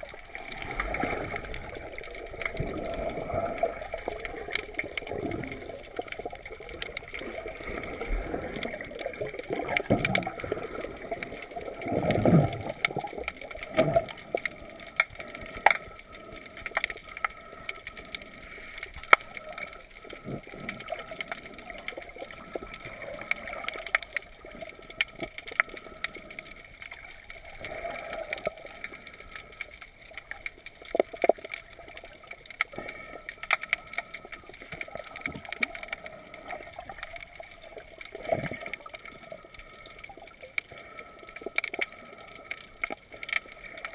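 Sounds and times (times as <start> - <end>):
water sloshing underwater: 0.0 - 43.9
water swishes: 0.0 - 43.9.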